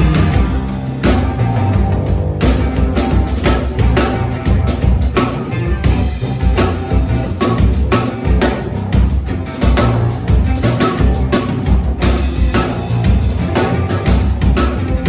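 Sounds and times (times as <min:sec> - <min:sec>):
drum kit beat: 0:00.0 - 0:15.0
rock band playing: 0:00.0 - 0:15.0.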